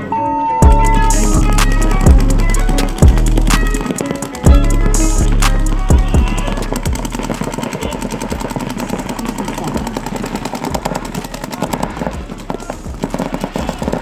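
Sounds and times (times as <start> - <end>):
paintball markers firing: 0.8 - 14.0.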